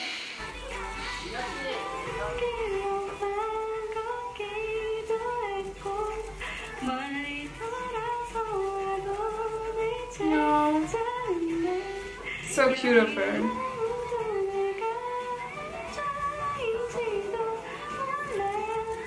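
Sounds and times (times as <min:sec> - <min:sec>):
woman singing into microphone: 0:00.0 - 0:19.0.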